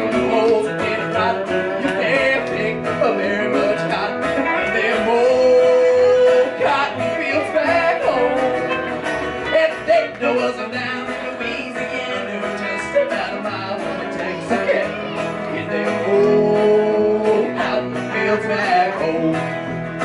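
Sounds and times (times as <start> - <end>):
country band playing: 0.0 - 20.0
electric guitar: 0.0 - 20.0
upright bass: 0.0 - 20.0.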